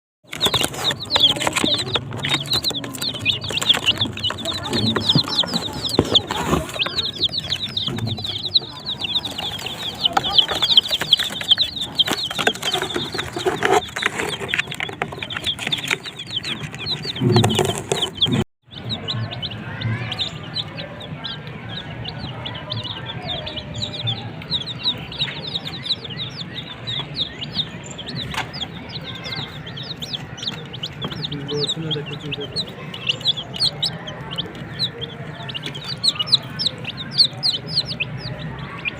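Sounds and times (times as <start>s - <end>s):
chicks peeping: 0.2s - 38.9s.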